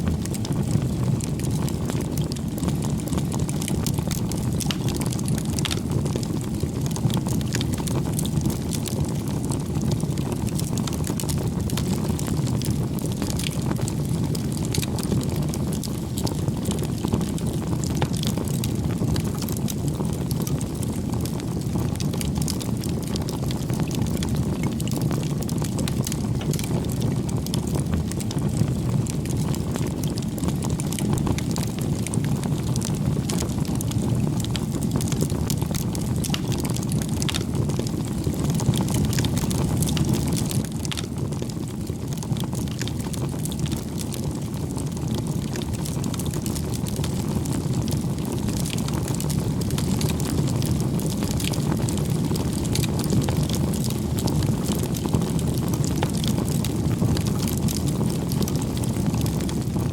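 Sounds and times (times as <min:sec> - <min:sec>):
burning wood crackling and popping: 0:00.0 - 0:59.9
low rush of flames: 0:00.0 - 0:59.9.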